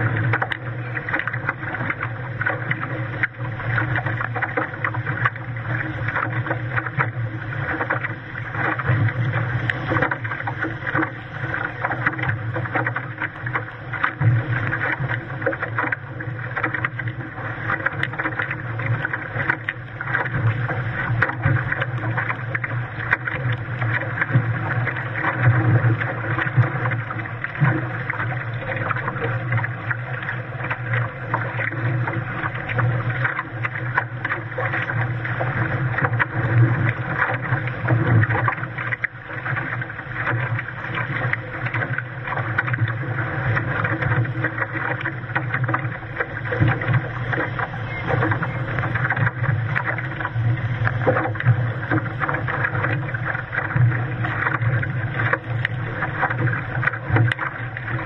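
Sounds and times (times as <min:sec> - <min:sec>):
water slapping against boat hull: 0:00.0 - 0:58.0.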